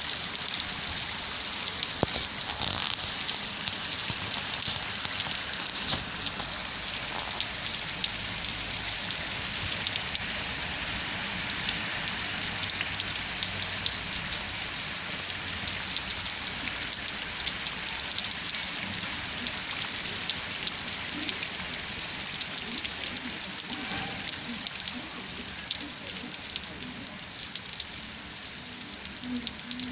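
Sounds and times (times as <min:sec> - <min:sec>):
rain on hard surface: 0:00.0 - 0:29.9.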